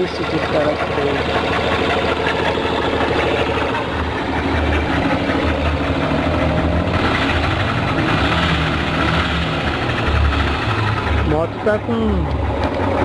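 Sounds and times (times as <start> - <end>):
motorcycle engine idling with ticking: 0.0 - 13.0.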